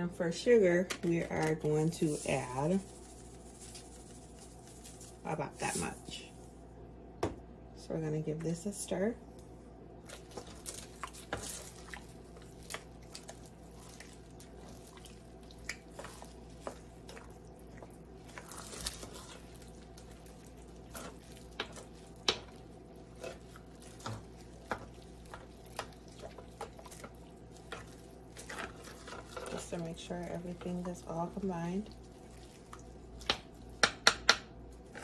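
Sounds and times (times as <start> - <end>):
wet squelches of stirring: 0.0 - 6.9, 8.4 - 35.0.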